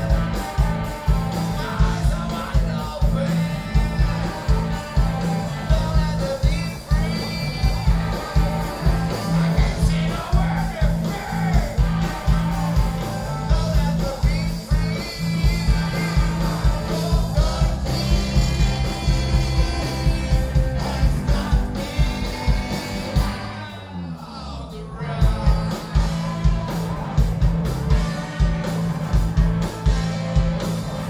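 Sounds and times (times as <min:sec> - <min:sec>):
drums: 0:00.0 - 0:31.0
electric guitars: 0:00.0 - 0:31.0
rock band playing live: 0:00.0 - 0:31.0
person singing: 0:01.3 - 0:26.9.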